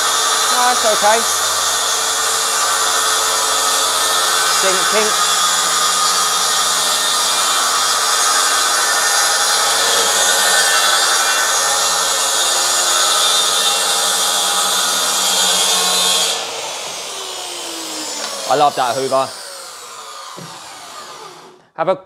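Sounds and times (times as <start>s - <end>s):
plunge saw cutting board: 0.0s - 21.6s.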